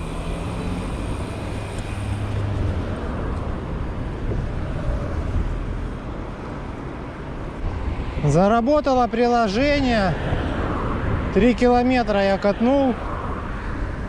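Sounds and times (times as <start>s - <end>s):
road traffic noise: 0.0s - 14.0s
wind rumble: 0.0s - 14.0s.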